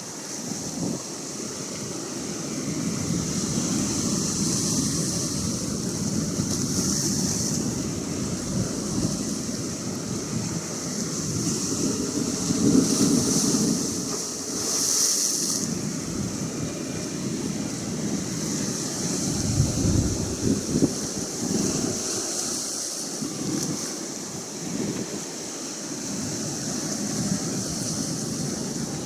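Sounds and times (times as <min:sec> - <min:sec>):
ocean waves breaking: 0:00.0 - 0:29.0
wind buffeting microphone: 0:02.2 - 0:29.0.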